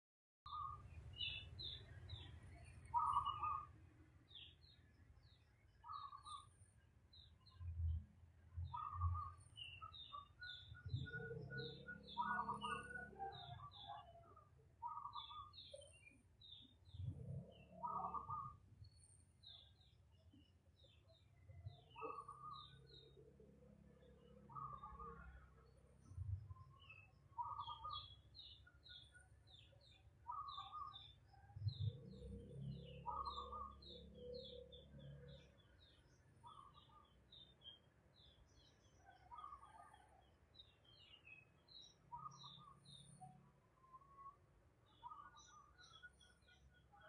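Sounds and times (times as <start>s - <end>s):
birds chirping: 0.5s - 7.7s, 8.7s - 47.0s.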